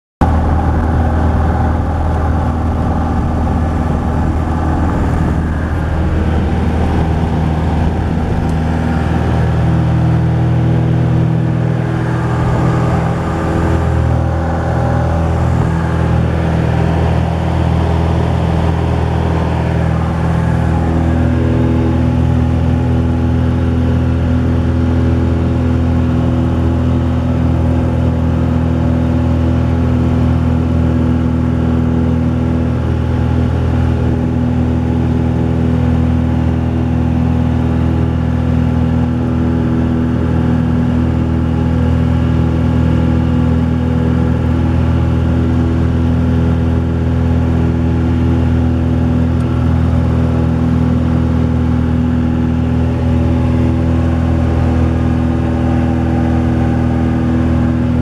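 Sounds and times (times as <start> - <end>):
airplane engine and propeller: 0.2 - 58.0.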